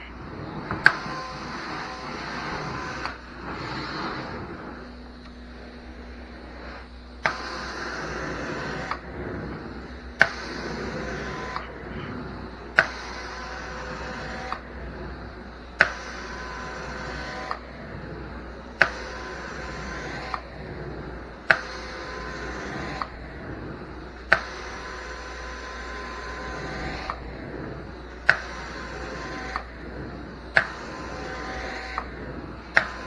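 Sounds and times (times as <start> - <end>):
hissing spray and suction: 0.0 - 33.0
vacuum hum: 0.0 - 33.0.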